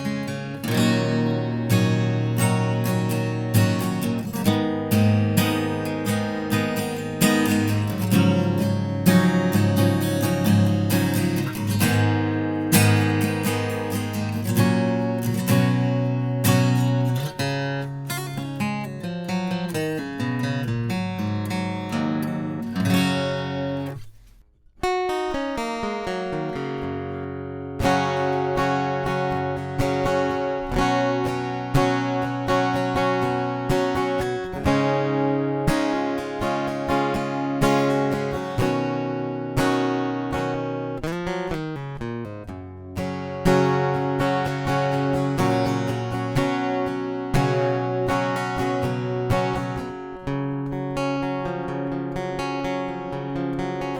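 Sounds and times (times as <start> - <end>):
acoustic guitar playing: 0.0 - 53.9.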